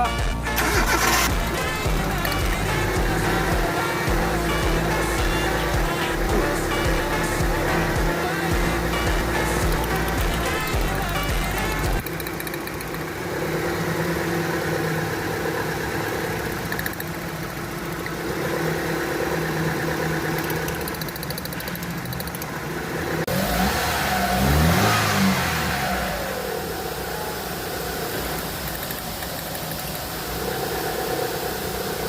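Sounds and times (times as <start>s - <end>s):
misfiring car engine idling and revving: 0.0s - 32.0s.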